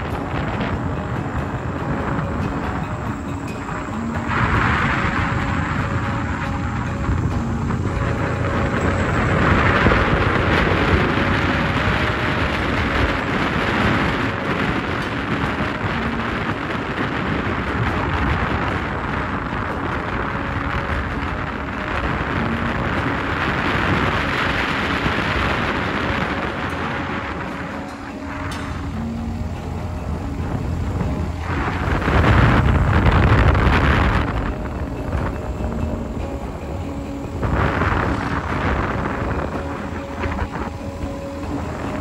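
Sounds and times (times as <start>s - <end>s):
vehicle rumble on road: 0.0s - 42.0s
wind buffeting the microphone: 0.0s - 42.0s.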